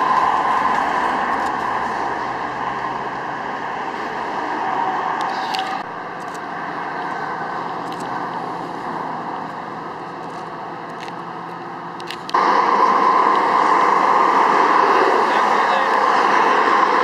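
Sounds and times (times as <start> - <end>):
highway traffic rushing: 0.0 - 17.0.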